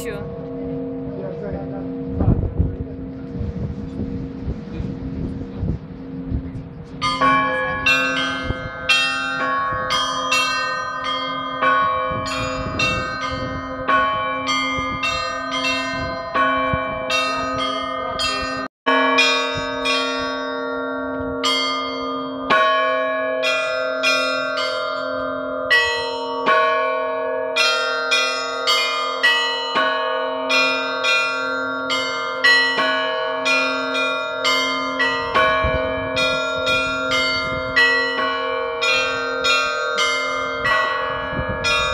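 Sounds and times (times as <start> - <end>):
deep bell sounding: 0.0 - 41.9
small church bells ringing rapidly: 0.0 - 41.9.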